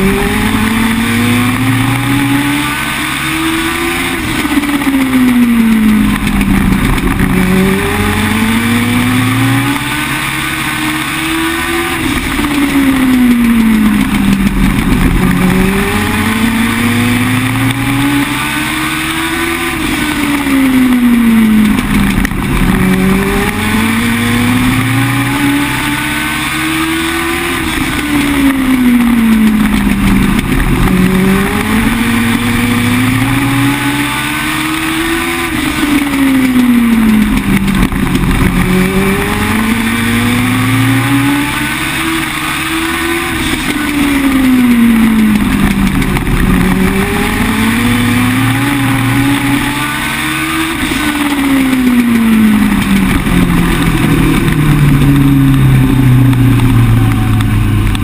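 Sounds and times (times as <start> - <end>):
racing motorcycle engine revving: 0.0 - 58.0.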